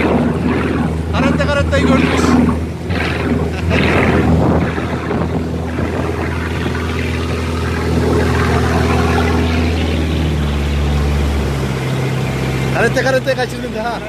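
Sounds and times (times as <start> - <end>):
boat diesel engine running: 0.0 - 14.0
water rushing past: 0.0 - 14.0.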